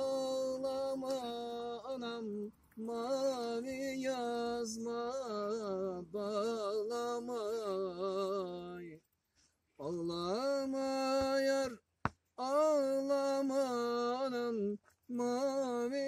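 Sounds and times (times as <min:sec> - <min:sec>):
man singing unaccompanied: 0:00.0 - 0:09.2, 0:09.8 - 0:16.0.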